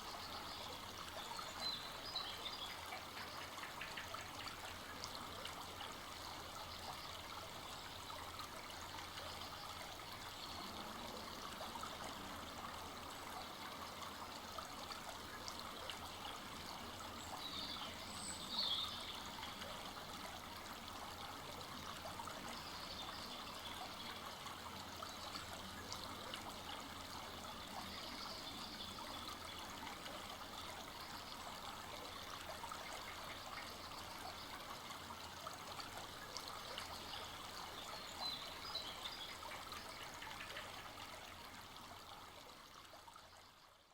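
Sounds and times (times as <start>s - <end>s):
brook babbling: 0.0s - 43.9s.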